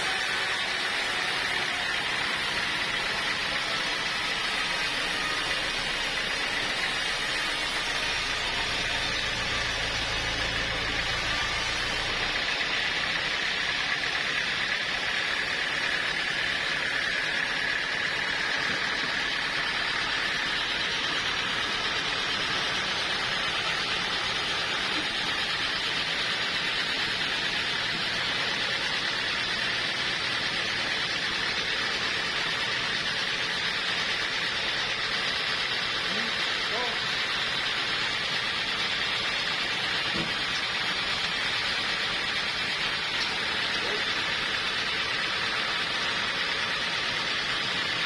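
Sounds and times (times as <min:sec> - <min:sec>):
saw cutting through wood: 0:00.0 - 0:48.0.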